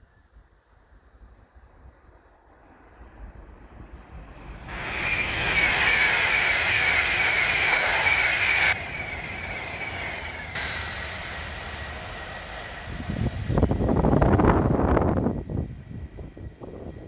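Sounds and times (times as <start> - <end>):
electric train whine: 0.0 - 17.0.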